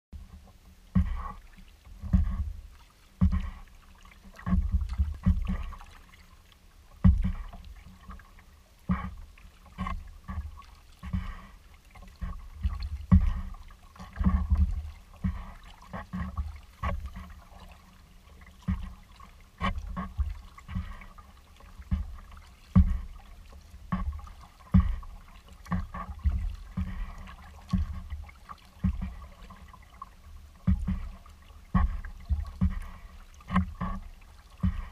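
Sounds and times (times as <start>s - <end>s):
kayak paddle splashes: 0.2s - 34.9s.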